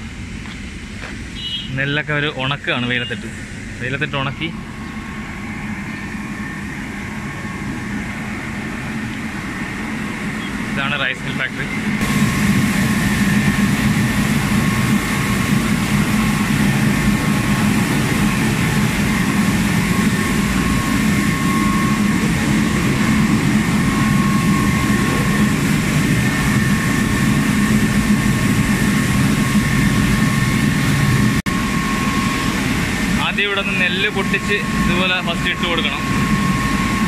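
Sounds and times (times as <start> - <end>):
high-pitched machine whines: 0.0 - 37.0
mill machinery droning: 0.0 - 37.0.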